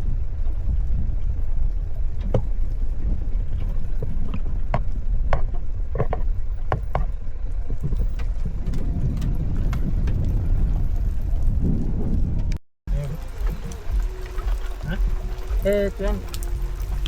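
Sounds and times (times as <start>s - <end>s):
vehicle rumble on rough road: 0.0s - 17.0s.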